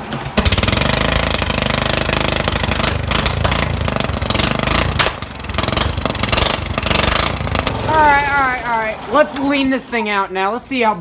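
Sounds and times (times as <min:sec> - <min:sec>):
unmuffled lawnmower engine: 0:00.0 - 0:09.7.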